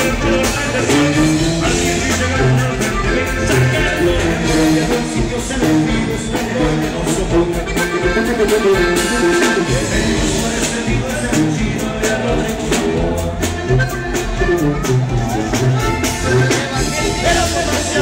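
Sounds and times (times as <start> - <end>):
live band with sousaphone and drums: 0.0 - 18.0.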